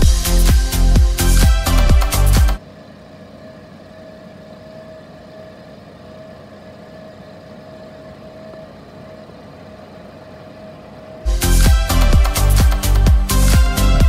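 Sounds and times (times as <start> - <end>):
thin steady whine: 0.0 - 14.0.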